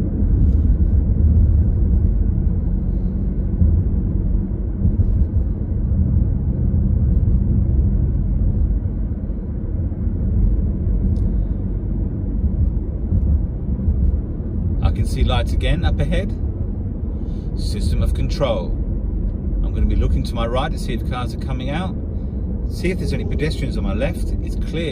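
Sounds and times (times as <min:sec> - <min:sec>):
car driving interior rumble: 0:00.0 - 0:24.9.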